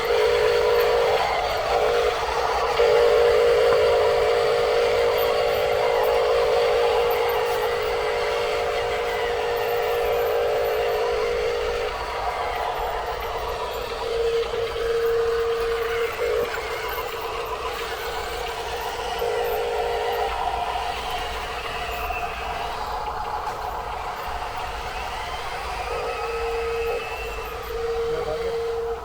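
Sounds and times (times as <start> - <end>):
toy electric motor whining: 0.0 - 29.0.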